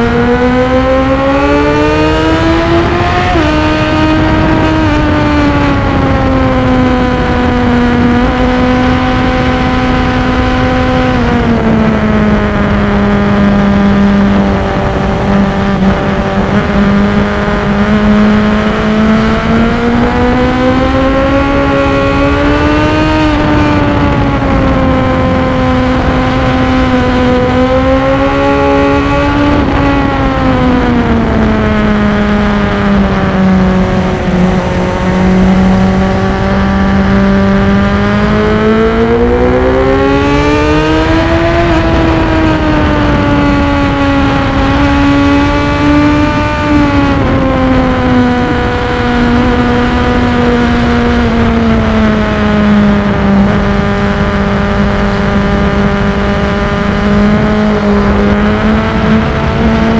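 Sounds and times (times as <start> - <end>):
motorcycle engine at high revs: 0.0 - 59.9
wind noise on microphone: 0.0 - 59.9.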